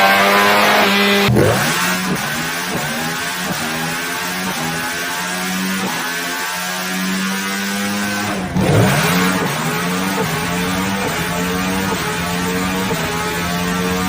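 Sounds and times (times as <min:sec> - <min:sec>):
motorcycle engine high steady note: 0:00.0 - 0:14.0.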